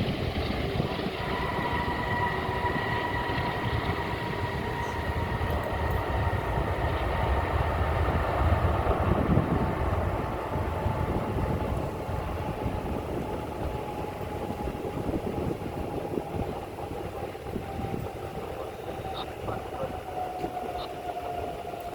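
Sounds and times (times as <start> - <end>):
high engine whine: 0.0 - 21.9
jet engine rumble: 0.0 - 21.9.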